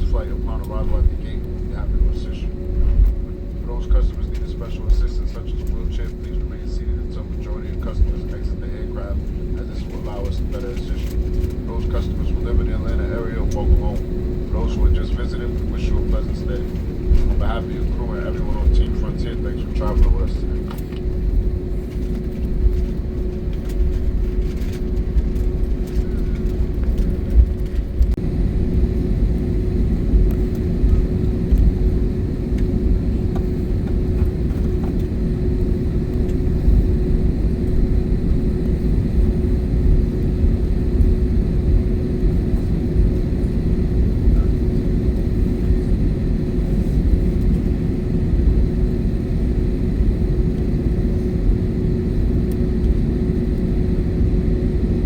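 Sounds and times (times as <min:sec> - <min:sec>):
aircraft cabin rumble: 0:00.0 - 0:55.0
constant droning tone: 0:00.0 - 0:55.0.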